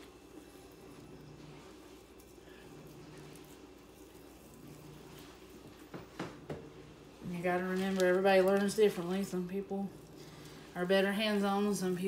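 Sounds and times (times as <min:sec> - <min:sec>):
squishing of ground meat: 0:00.0 - 0:12.0.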